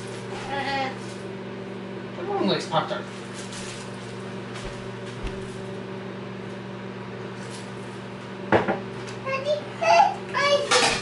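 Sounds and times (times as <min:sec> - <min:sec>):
kitchen appliance humming: 0:00.0 - 0:11.0.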